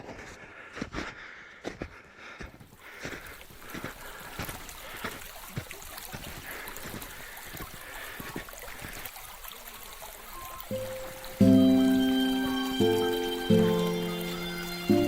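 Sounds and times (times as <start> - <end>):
running water: 2.7 - 15.0.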